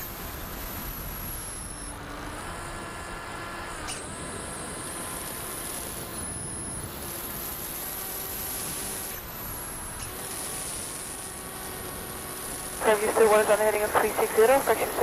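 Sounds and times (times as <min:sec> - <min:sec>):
electric motor and propeller whine: 0:00.0 - 0:12.8.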